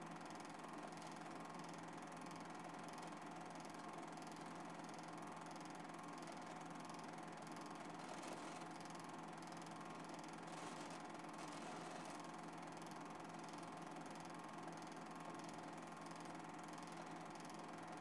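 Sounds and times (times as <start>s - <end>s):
faint mechanical hum with hiss: 0.0s - 18.0s.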